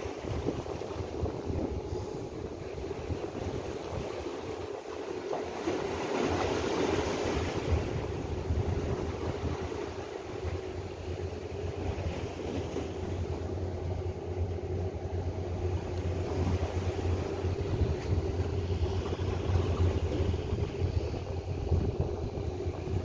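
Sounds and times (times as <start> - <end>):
constant drone: 0.0 - 23.0
low engine hum: 0.0 - 23.0.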